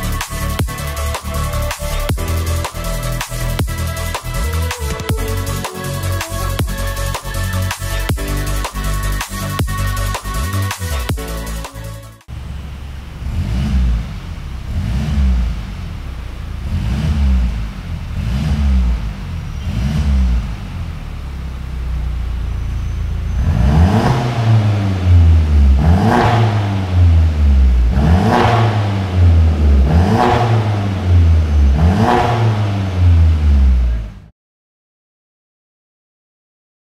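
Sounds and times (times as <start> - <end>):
car engine revving: 0.0 - 34.3.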